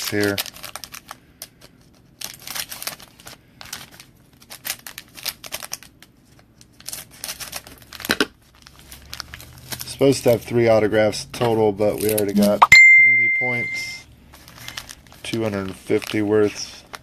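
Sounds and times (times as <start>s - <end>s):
foil wrappers crinkling and tearing: 0.0s - 10.9s, 11.9s - 12.3s, 14.3s - 17.0s.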